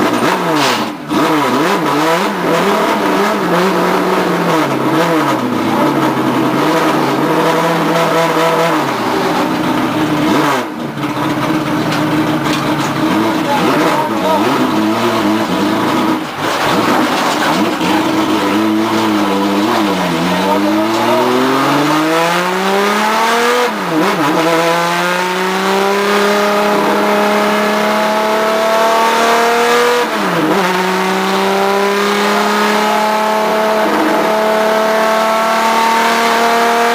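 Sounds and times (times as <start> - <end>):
race car engine accelerating: 0.0 - 36.9.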